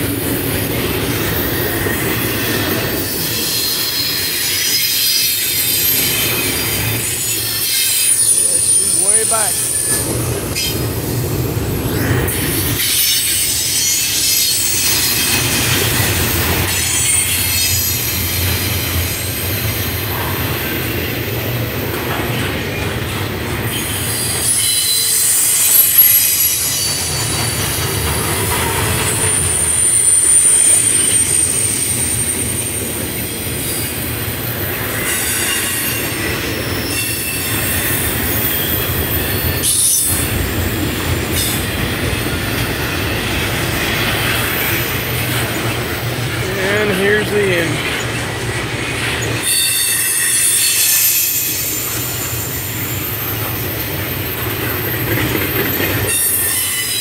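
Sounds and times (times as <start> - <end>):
train wheels squealing: 0.0 - 46.2, 48.9 - 57.0
low rumble of train cars: 0.0 - 57.0.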